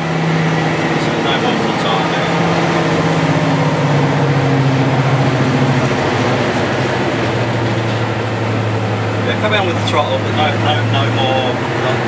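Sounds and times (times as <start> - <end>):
diesel locomotive engine drone: 0.0 - 12.0
train running noise: 0.0 - 12.0.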